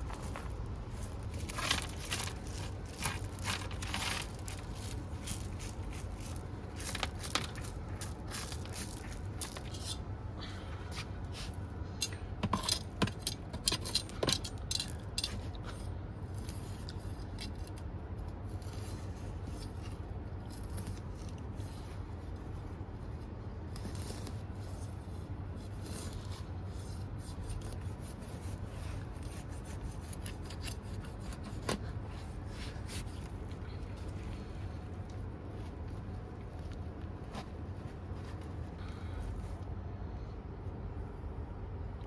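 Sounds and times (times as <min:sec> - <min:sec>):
handling rubbing and scraping: 0:00.0 - 0:10.2, 0:10.9 - 0:39.8
steady low hum: 0:00.0 - 0:42.0.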